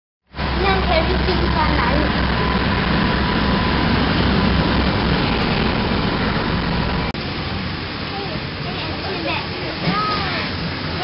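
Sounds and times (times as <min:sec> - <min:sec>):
locomotive engine rumbling: 0:00.3 - 0:11.0.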